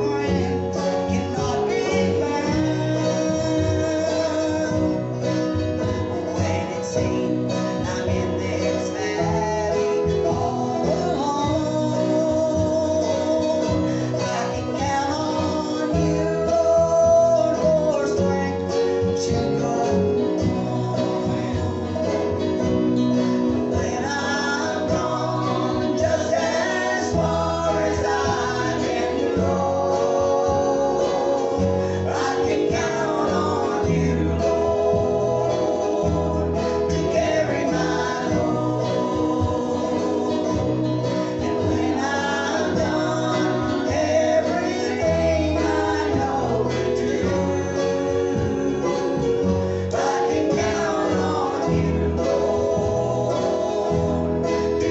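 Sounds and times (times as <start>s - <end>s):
bass line: 0.0s - 54.9s
group singing gospel: 0.0s - 54.9s
guitar: 0.0s - 54.9s.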